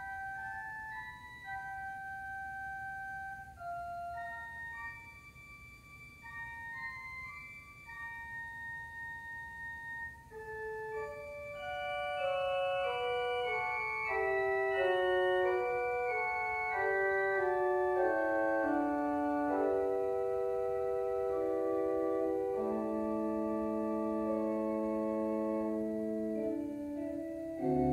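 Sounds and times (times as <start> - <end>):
organ playing sustained chords: 0.0 - 27.9.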